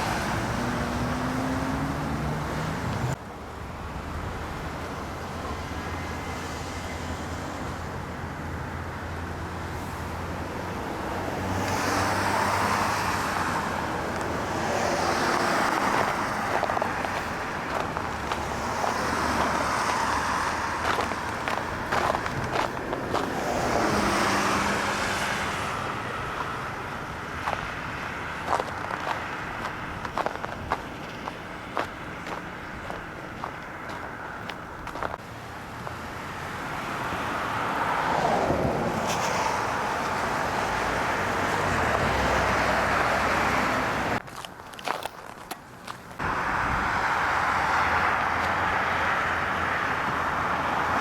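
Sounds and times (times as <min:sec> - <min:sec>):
cars passing: 0:00.0 - 0:51.0.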